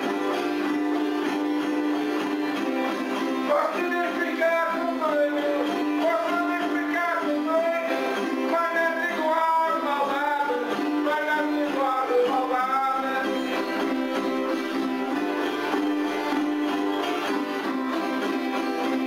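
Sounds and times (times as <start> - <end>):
acoustic guitars strummed: 0.0 - 19.0.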